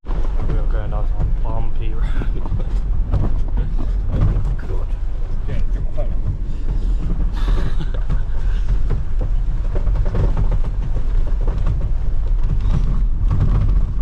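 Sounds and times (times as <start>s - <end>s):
body knocks and rattles: 0.0s - 14.0s
vehicle rumble on bumpy road: 0.0s - 14.0s.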